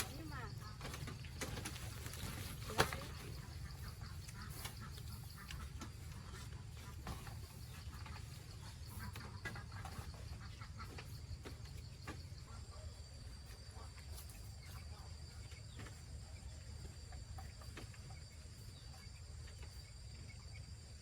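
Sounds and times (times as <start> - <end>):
crickets trilling: 0.0 - 6.2, 7.6 - 21.0.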